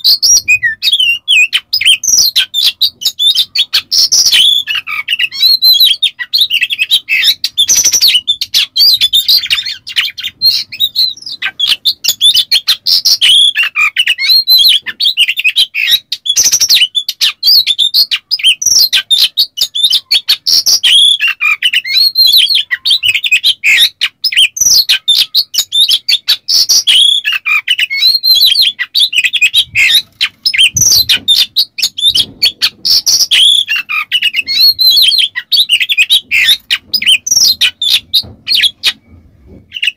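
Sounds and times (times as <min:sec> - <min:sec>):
bird whistled song: 0:00.0 - 0:39.9
harsh rasping bird calls: 0:00.0 - 0:39.9.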